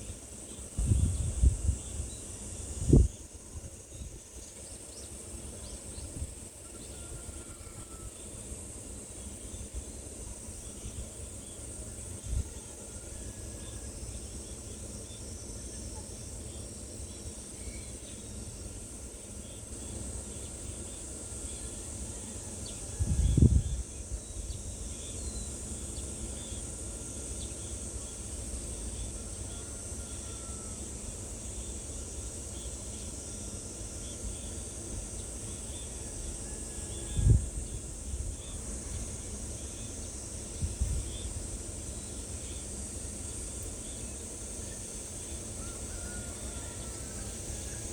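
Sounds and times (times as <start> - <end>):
high insect buzz: 0.0 - 47.9.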